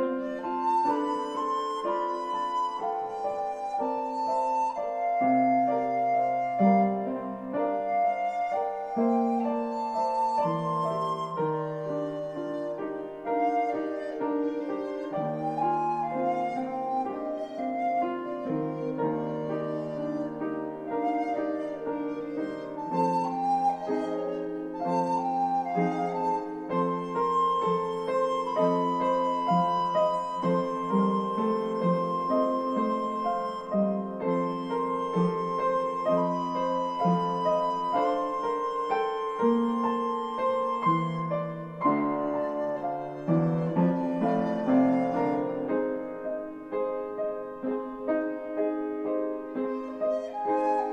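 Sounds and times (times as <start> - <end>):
recorder melody: 0.0 - 46.0
piano accompaniment: 0.0 - 50.9.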